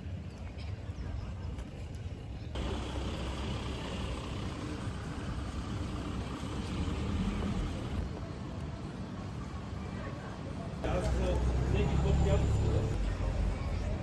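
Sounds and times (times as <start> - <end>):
street noise: 0.0 - 14.0
vehicle engine rumble: 0.4 - 14.0.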